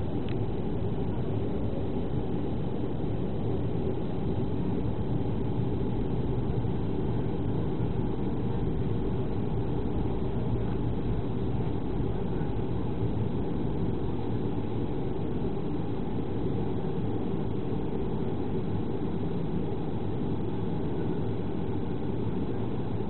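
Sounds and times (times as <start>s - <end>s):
jet engine cabin rumble: 0.0s - 23.0s.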